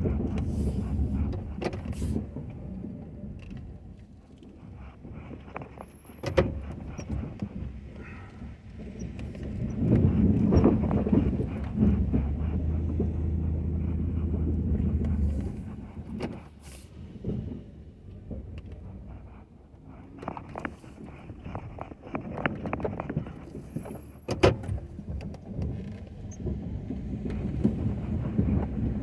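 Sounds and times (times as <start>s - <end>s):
pickup truck engine: 0.0s - 29.0s.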